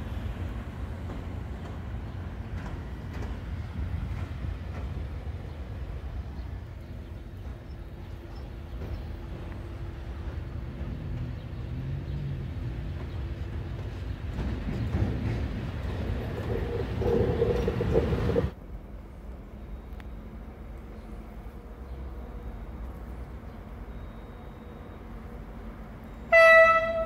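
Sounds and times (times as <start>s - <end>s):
locomotive low rumble: 0.0s - 27.0s.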